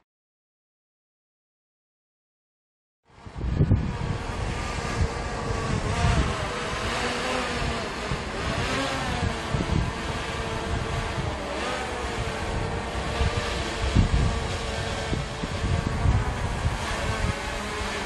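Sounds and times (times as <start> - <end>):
drone propellers whining: 3.1 - 18.0
wind buffeting microphone: 3.1 - 18.0.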